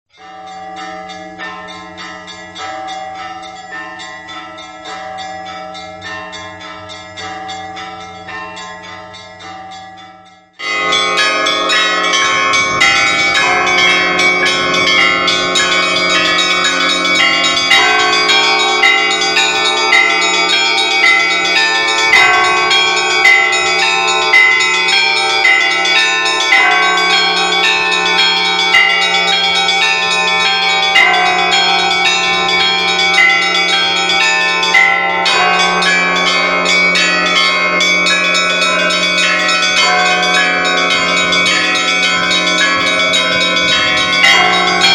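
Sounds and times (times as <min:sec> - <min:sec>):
small bells rhythmic peal: 0:00.1 - 0:44.9
large bell low hum: 0:00.2 - 0:44.9.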